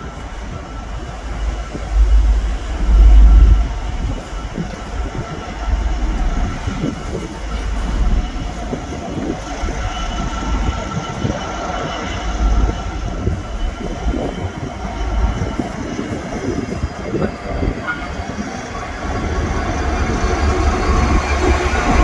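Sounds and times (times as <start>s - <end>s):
diesel locomotive low rumble: 0.0s - 22.0s.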